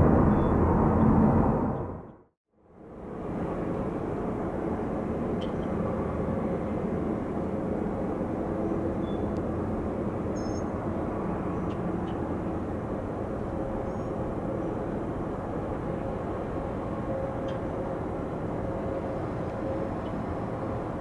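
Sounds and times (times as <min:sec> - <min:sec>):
jet airliner engine rumble: 0:00.0 - 0:21.0.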